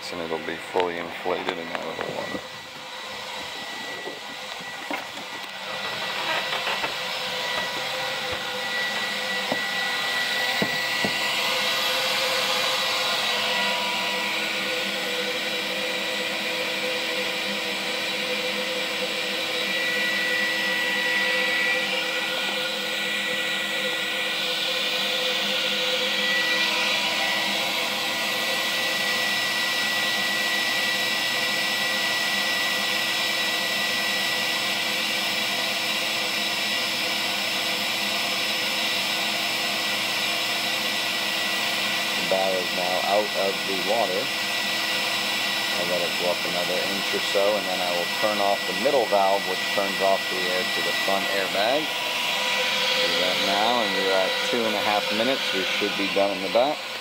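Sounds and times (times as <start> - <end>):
air blower whining hiss: 0.0 - 57.0.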